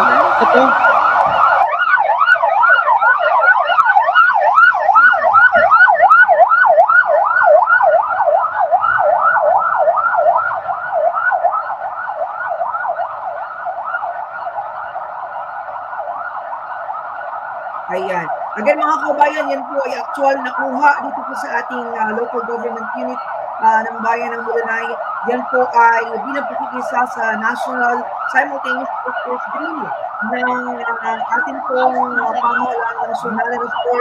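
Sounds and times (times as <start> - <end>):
siren yelping: 0.0 - 34.0.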